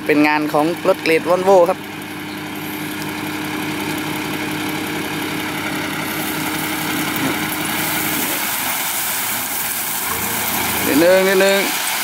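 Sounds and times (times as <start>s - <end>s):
diesel truck engine running: 0.0s - 12.0s
hydraulic hoist whine: 1.7s - 12.0s.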